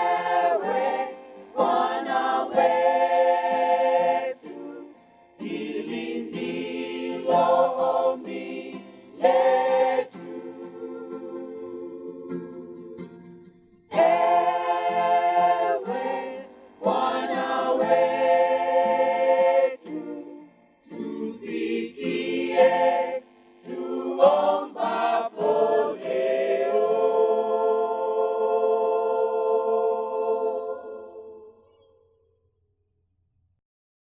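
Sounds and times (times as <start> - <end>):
choir singing held chords: 0.0 - 13.0, 13.9 - 31.7.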